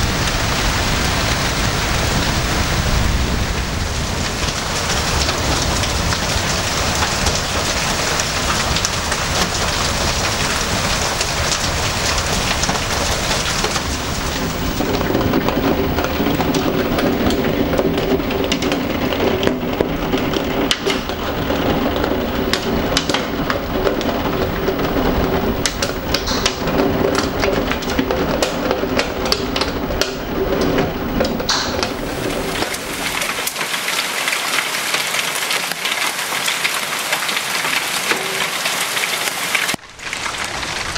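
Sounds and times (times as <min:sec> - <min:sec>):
heavy rain and hail: 0:00.0 - 0:40.9
ticks of drops and hailstones: 0:00.0 - 0:40.9.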